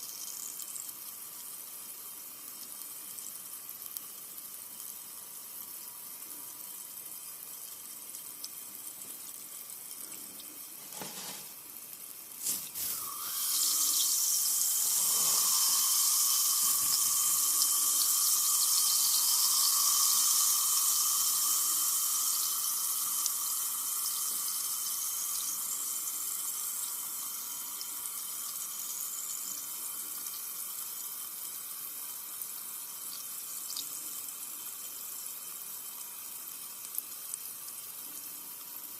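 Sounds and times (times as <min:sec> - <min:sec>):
soda fizzing: 0:00.0 - 0:38.9
soda pouring and foaming: 0:00.0 - 0:38.9.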